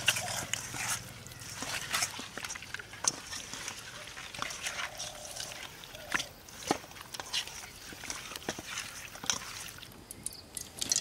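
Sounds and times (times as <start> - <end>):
wet squelching of fish: 0.0 - 11.0.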